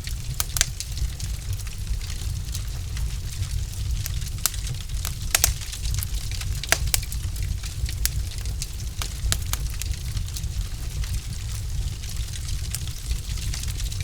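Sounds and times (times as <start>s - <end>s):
log fire crackling and popping: 0.0s - 14.0s
low rumble of burning: 0.0s - 14.0s.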